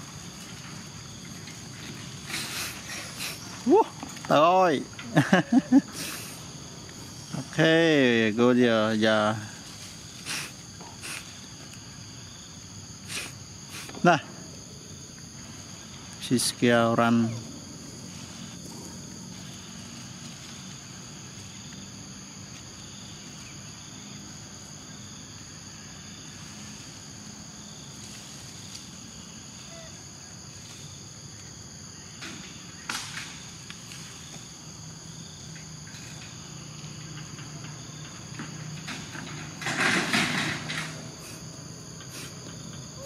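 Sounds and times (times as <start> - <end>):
insect chorus: 0.0 - 43.0.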